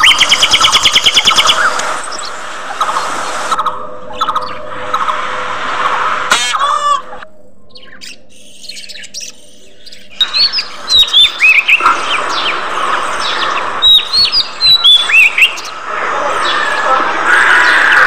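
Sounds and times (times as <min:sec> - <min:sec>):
budgerigars chirping and chattering: 0:00.0 - 0:05.2, 0:07.8 - 0:18.0
harsh bird call: 0:00.0 - 0:18.0.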